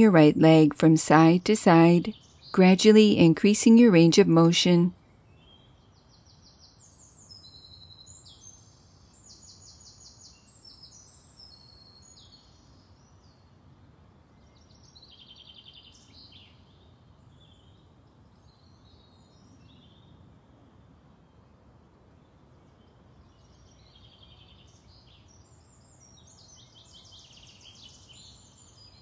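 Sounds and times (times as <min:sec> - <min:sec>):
songbirds chirping and trilling: 0:00.0 - 0:21.5, 0:22.2 - 0:29.0
low outdoor hiss: 0:00.0 - 0:29.0.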